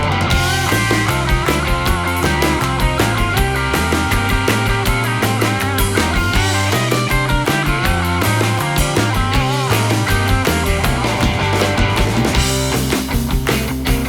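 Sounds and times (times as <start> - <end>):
bass guitar: 0.0 - 14.0
electric guitar: 0.0 - 14.0
rock music: 0.0 - 14.0
steady drum beat: 0.0 - 14.0.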